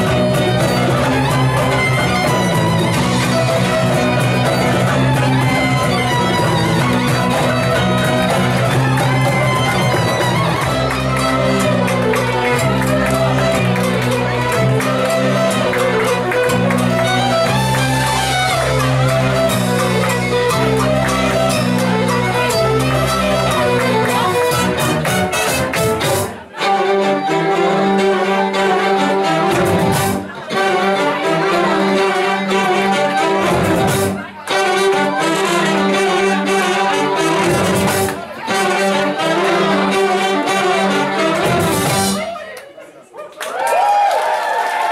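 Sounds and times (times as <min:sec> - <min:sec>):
folk ensemble with fiddles and brass: 0:00.0 - 0:42.6.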